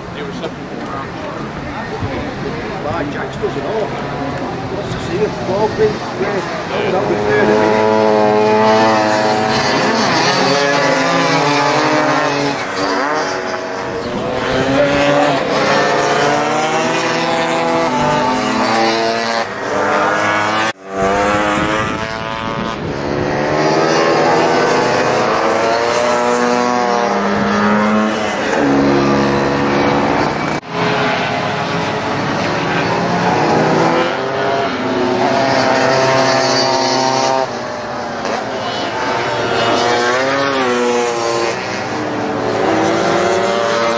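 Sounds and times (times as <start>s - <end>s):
racing scooter engines revving: 0.0s - 43.9s.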